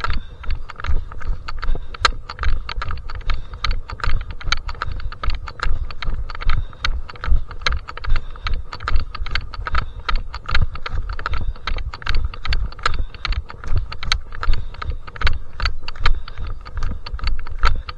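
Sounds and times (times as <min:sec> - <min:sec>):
footsteps on stony trail: 0:00.0 - 0:17.9.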